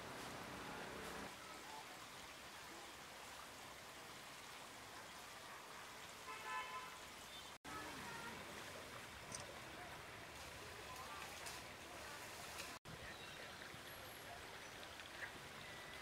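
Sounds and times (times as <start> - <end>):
faint outdoor ambience: 0.0 - 16.0.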